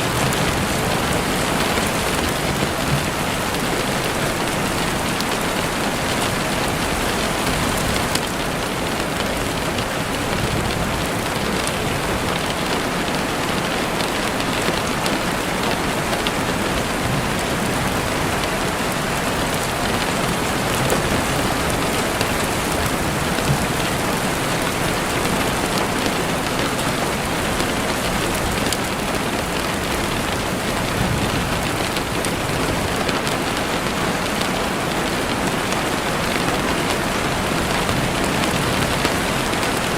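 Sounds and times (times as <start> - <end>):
heavy rain on window: 0.0 - 39.9.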